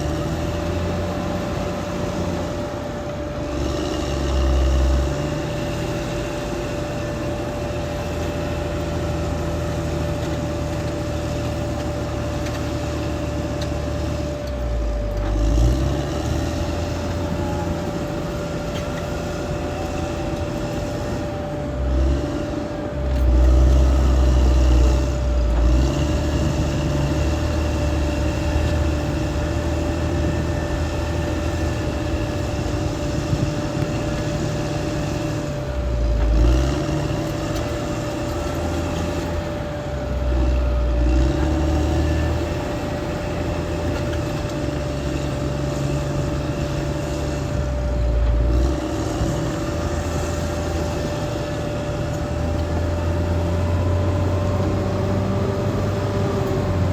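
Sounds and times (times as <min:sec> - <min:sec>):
bulldozer diesel engine under load: 0:00.0 - 0:56.9
steady whine: 0:00.0 - 0:56.9.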